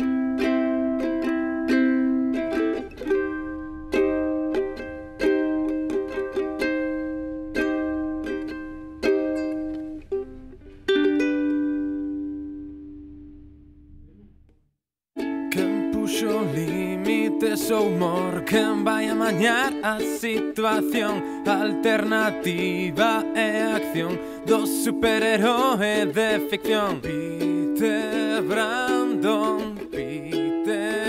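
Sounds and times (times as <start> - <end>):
strummed string instrument chords: 0.0 - 14.3, 15.2 - 31.0.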